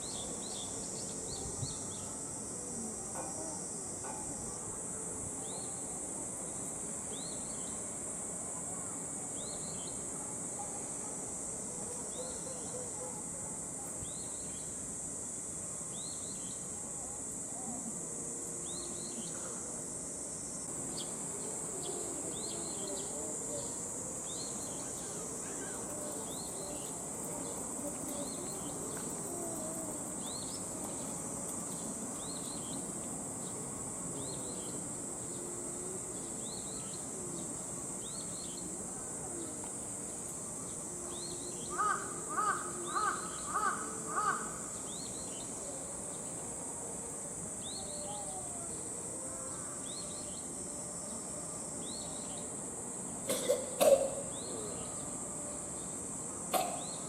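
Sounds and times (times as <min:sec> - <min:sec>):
insects droning high-pitched: 0:00.0 - 0:57.0.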